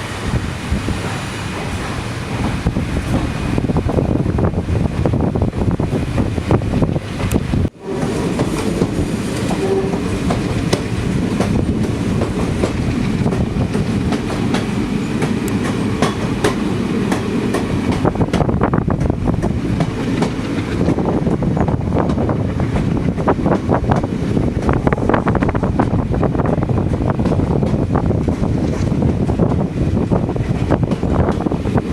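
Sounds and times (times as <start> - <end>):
train rumbling along track: 0.0 - 31.9
wheels clicking over rail joints: 4.9 - 31.9.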